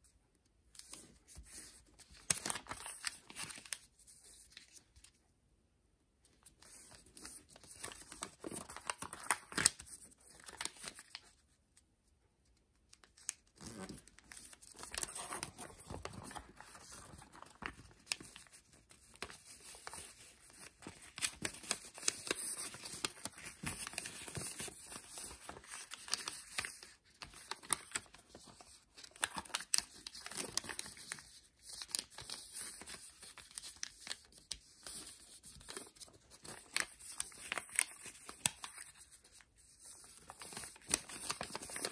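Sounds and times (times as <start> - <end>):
paper rustling and crinkling: 0.8 - 5.2, 6.4 - 11.5, 12.9 - 41.9.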